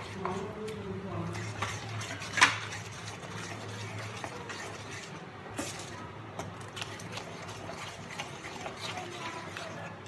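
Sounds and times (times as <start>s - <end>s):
spatula scraping a pan: 1.1s - 5.9s, 6.7s - 10.0s.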